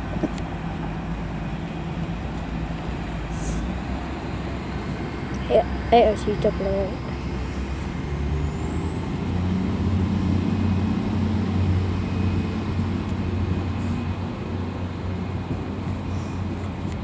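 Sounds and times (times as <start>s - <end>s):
train engine drone: 0.0s - 17.0s.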